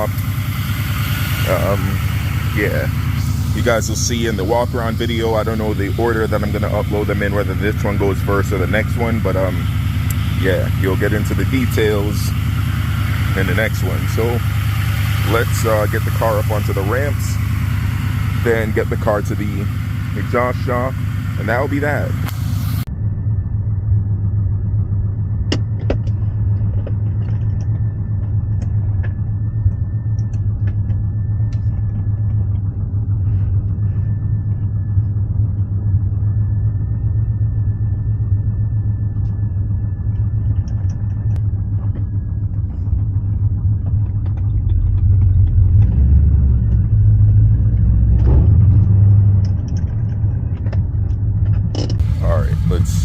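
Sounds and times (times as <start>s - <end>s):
car engine deep rumble: 0.0s - 53.0s.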